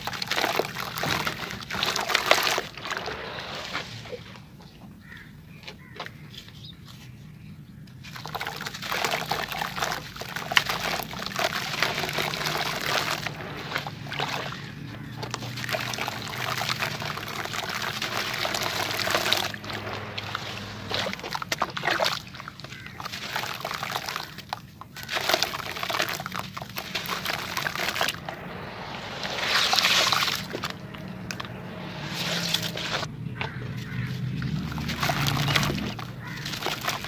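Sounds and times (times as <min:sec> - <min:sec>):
crumbling clumps of mud: 0:00.0 - 0:07.1, 0:07.8 - 0:37.0.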